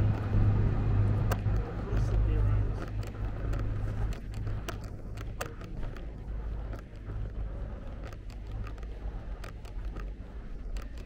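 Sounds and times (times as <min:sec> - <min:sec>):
street low rumble: 0:00.0 - 0:11.0
sharp taps and clicks: 0:01.2 - 0:11.0.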